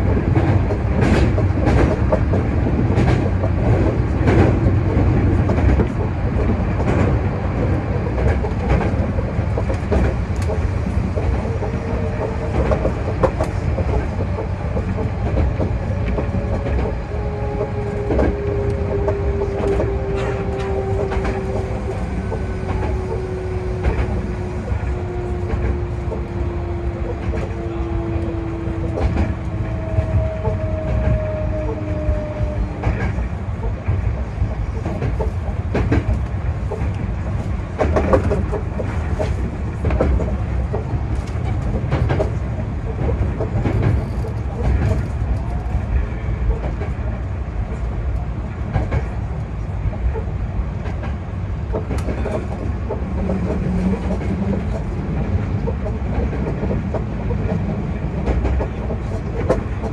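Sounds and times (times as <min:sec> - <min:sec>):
train low rumble: 0:00.0 - 0:59.9
wheels clacking over rail joints: 0:00.0 - 0:59.9.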